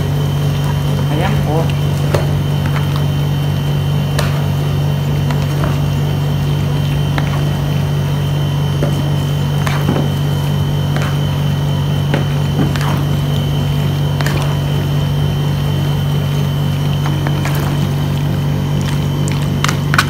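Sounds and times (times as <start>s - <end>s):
steady low hum: 0.0s - 20.0s
squishing of dressed pasta: 1.7s - 20.0s.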